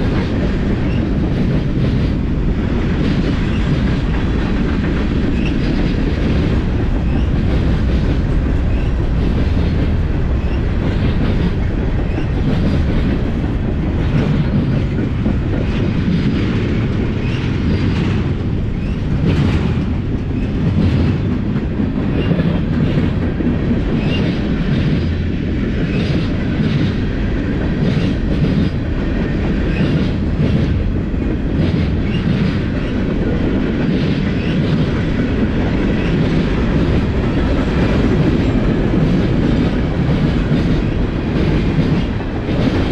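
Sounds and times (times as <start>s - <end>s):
freight train rumbling past: 0.0s - 42.9s
wheels clacking over rail joints: 0.0s - 42.9s.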